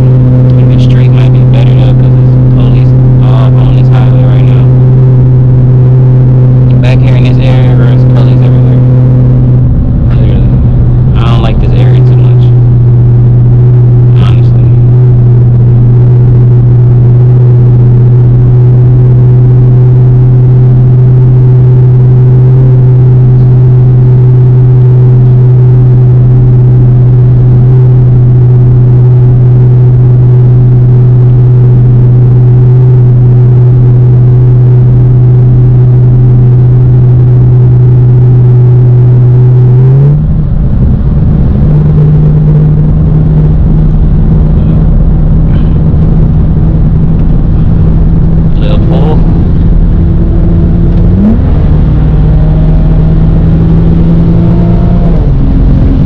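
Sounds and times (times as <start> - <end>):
car engine and exhaust droning: 0.0 - 56.0.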